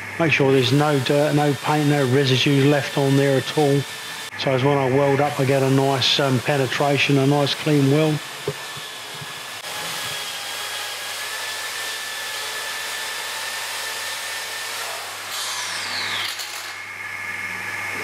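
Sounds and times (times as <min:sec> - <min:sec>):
angle grinder on steel: 0:00.4 - 0:04.4, 0:05.0 - 0:16.9.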